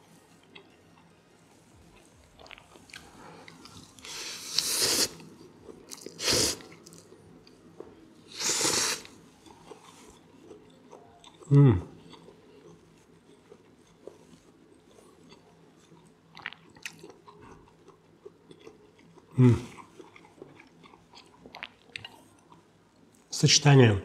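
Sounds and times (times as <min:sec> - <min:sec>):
person chewing: 0:00.3 - 0:23.0.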